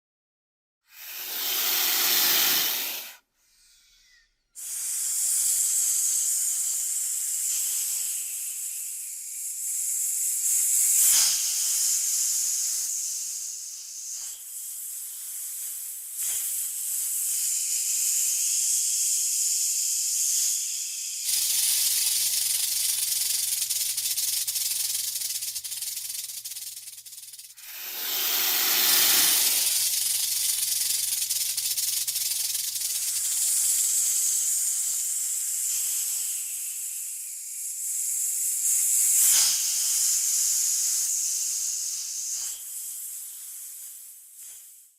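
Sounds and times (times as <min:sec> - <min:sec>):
snake hissing: 0:00.8 - 0:44.7.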